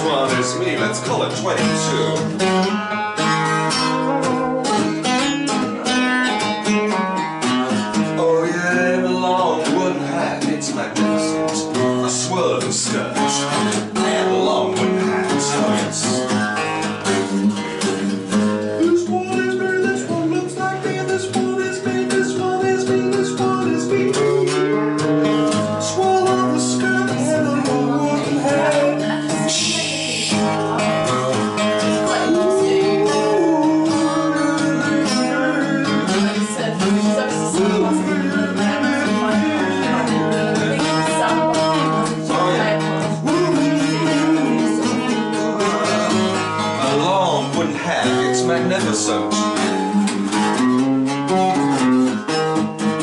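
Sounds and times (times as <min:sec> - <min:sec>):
acoustic guitar playing: 0:00.0 - 0:53.0.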